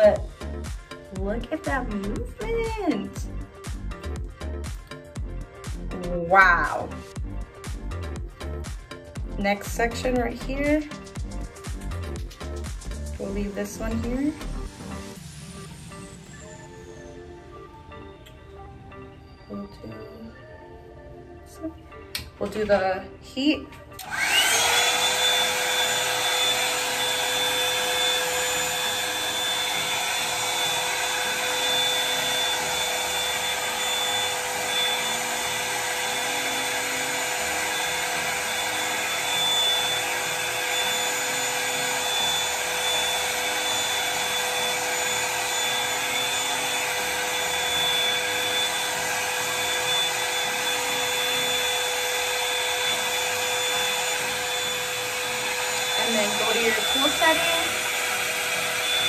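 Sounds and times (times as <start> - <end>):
hair dryer motor whine: 0.0 - 20.6, 23.9 - 59.0.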